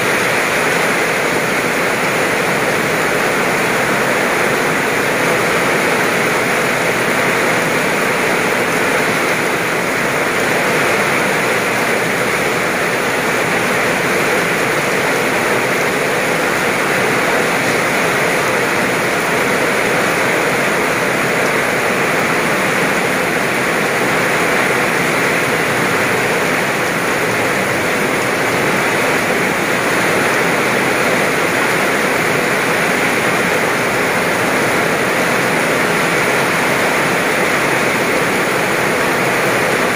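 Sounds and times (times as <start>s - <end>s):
heavy rain pouring on road: 0.0s - 39.9s.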